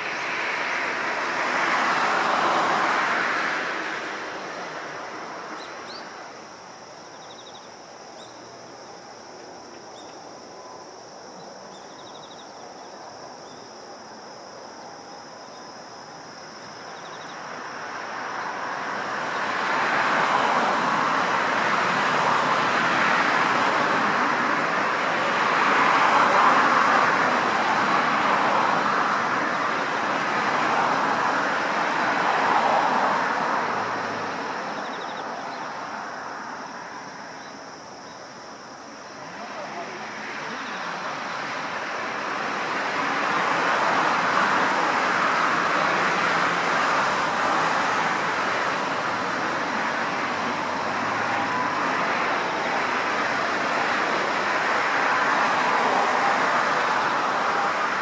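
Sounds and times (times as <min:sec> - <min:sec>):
vehicle tyre and engine noise: 0:00.0 - 0:58.0.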